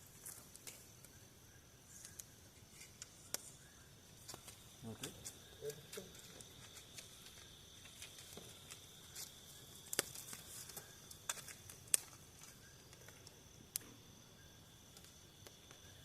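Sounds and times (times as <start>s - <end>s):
crickets chirring: 0.0s - 16.0s
sharp snaps and crackles: 0.0s - 16.0s.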